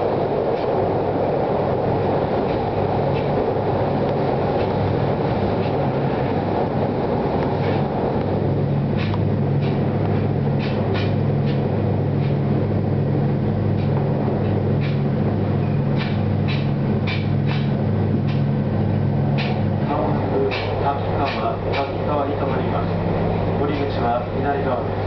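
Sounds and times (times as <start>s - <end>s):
wheels clicking over rail joints: 0.0s - 12.6s, 13.7s - 24.2s
train rumbling over bridge: 0.0s - 25.0s
train running hum: 0.0s - 25.0s.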